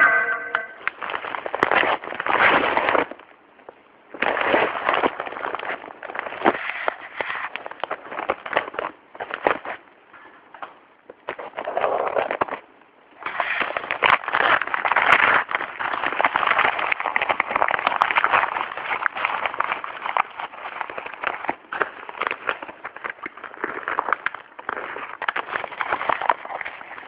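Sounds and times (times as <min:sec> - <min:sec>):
packaging crackling and rustling: 0:00.9 - 0:27.0.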